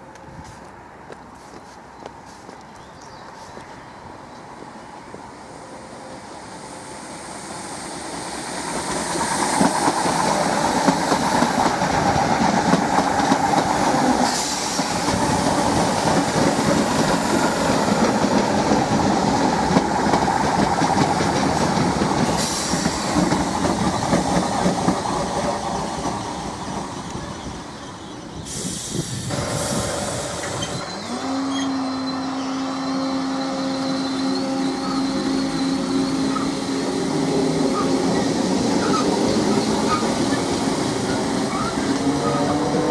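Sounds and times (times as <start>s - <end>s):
train wheels rumbling on rail: 0.0s - 42.9s
electric train hum: 3.6s - 42.9s.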